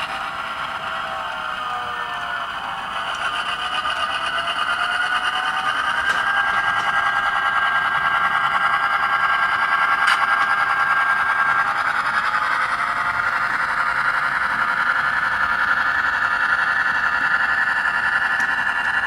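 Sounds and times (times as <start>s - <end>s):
model locomotive diesel engine sound: 0.0s - 19.0s.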